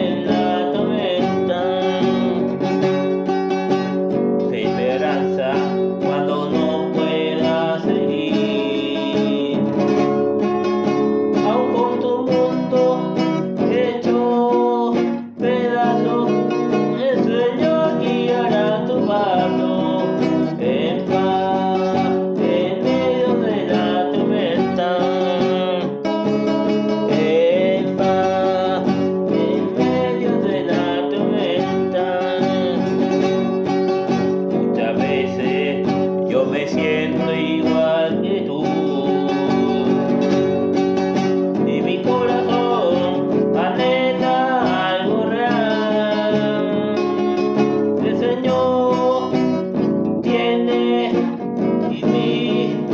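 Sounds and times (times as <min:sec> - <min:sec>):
acoustic guitar: 0:00.0 - 0:52.9
person singing: 0:00.0 - 0:52.9.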